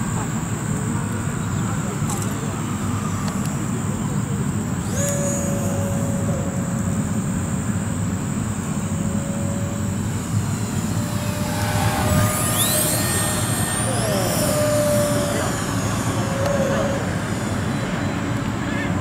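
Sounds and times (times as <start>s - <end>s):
electric ducted fans whining: 0.0s - 19.0s.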